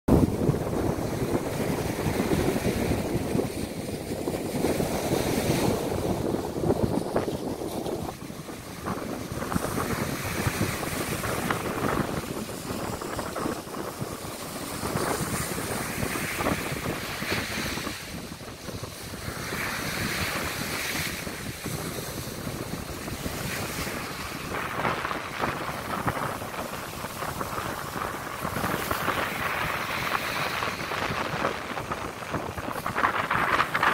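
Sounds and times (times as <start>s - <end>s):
sea surf breaking on beach: 0.1s - 33.9s
wind rumbling on microphone: 0.1s - 33.9s.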